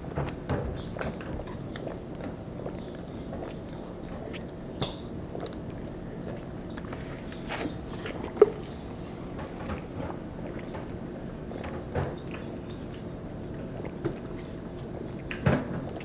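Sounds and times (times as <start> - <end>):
people gulping soda: 0.7 - 14.6.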